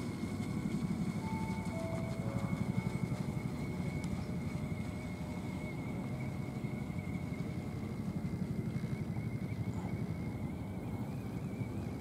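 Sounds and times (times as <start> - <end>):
high electric motor whine: 0.0 - 12.0
low outdoor rumble: 0.0 - 12.0.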